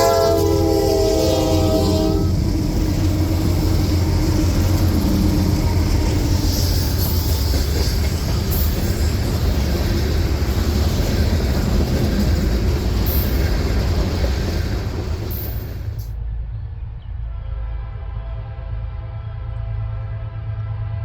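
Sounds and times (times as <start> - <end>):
freight train rolling past: 0.0 - 21.0.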